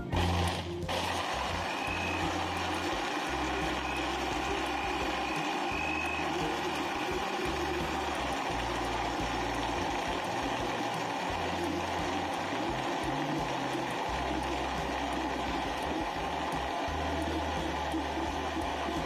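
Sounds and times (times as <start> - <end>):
blender whirring: 0.0 - 19.0.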